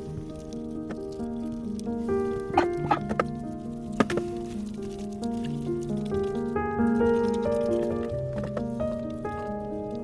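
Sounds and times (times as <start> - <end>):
background music melody: 0.0 - 10.0.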